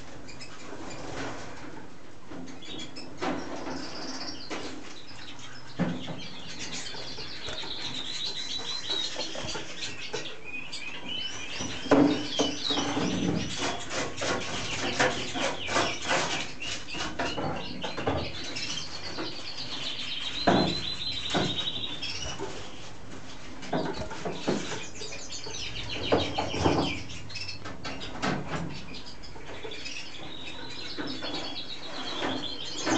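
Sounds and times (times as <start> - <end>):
canary singing trills: 2.3 - 22.9, 23.7 - 32.9.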